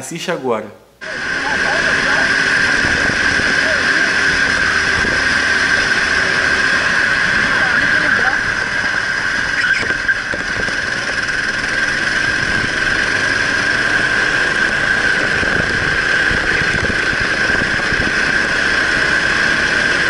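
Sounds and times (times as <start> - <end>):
kart engine whining: 1.0 - 20.0
wind noise: 2.0 - 20.0.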